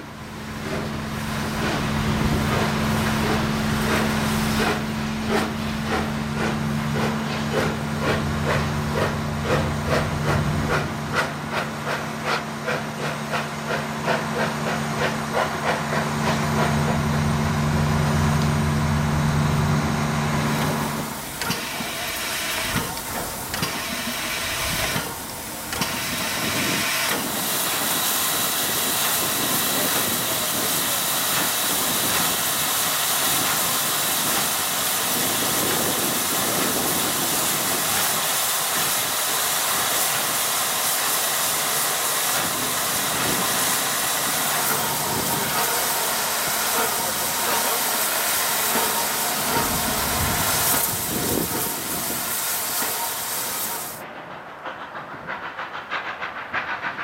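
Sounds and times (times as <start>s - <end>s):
steam hissing: 0.0s - 17.0s, 20.4s - 57.0s
steam locomotive chuffing: 0.0s - 57.0s.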